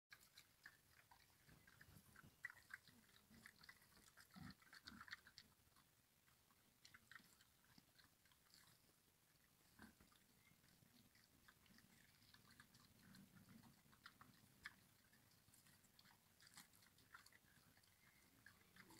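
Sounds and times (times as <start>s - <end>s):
wild boar chewing and crunching: 0.1s - 18.9s.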